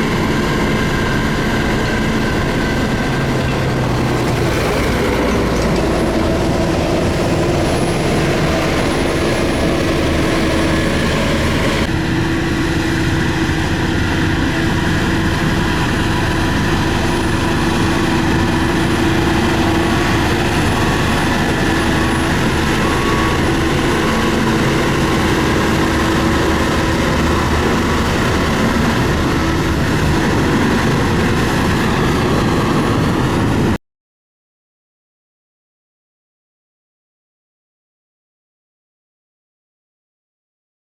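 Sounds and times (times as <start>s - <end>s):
diesel engine running under load: 0.0s - 33.8s.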